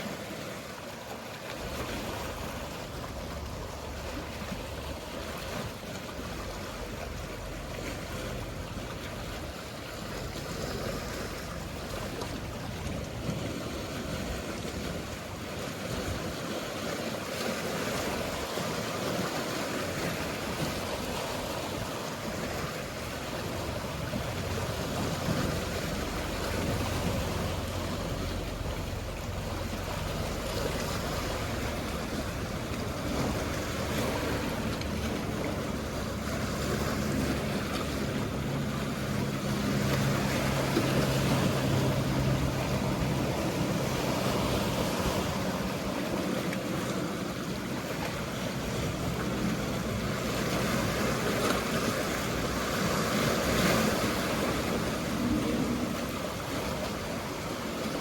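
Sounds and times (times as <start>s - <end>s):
boat engine hum: 0.0s - 58.0s
sea waves washing: 0.0s - 58.0s.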